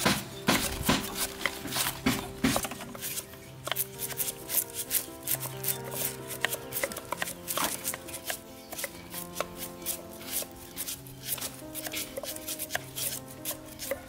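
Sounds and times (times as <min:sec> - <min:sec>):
background music with held notes: 0:00.0 - 0:14.0
knife chopping meat on a board: 0:00.0 - 0:14.0.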